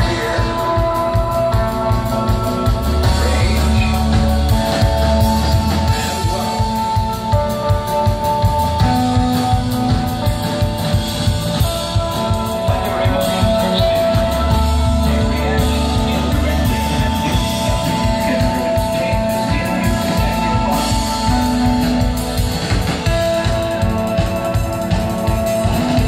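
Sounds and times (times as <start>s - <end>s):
bass: 0.0s - 26.0s
held electric guitar notes: 0.0s - 26.0s
steady drums: 0.0s - 26.0s.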